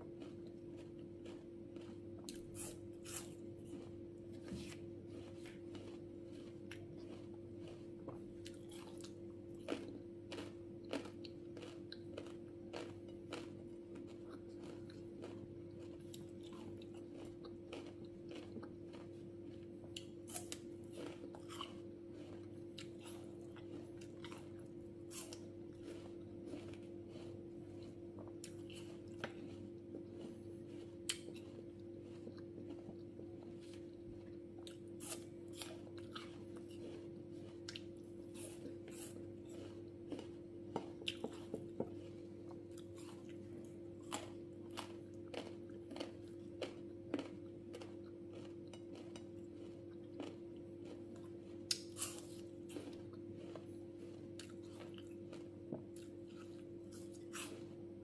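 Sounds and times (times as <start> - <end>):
crunchy chewing of raw fruit: 0.0 - 58.0.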